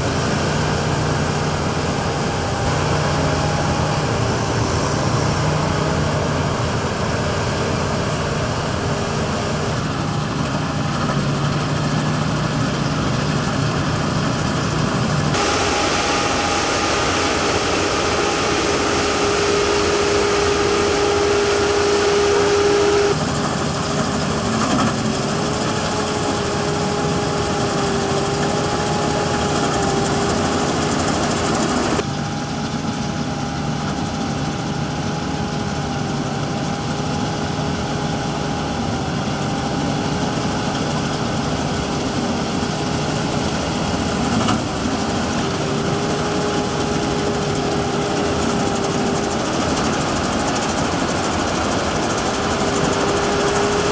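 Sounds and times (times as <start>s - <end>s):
combine harvester droning: 0.0s - 53.9s.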